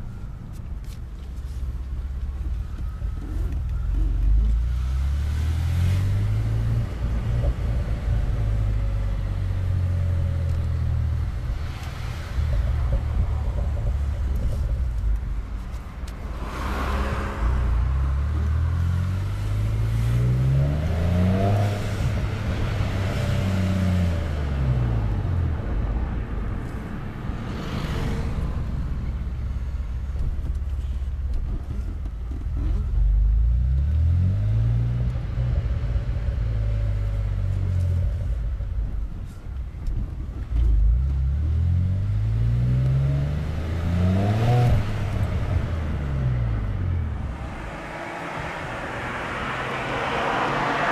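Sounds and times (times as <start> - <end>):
car engine revving and idling: 0.0 - 50.9.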